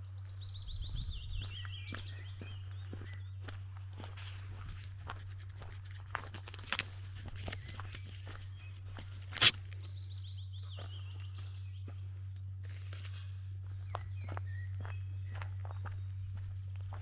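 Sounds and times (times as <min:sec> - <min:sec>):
songbird trill: 0:00.0 - 0:05.7, 0:07.2 - 0:17.0
low hum: 0:00.0 - 0:17.0
footsteps on gravel: 0:00.8 - 0:17.0.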